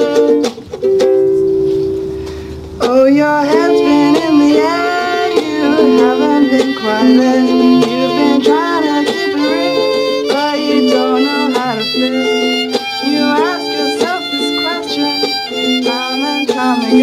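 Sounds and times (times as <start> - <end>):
fiddle melody: 0.0 - 17.0
ukulele accompaniment: 0.0 - 17.0.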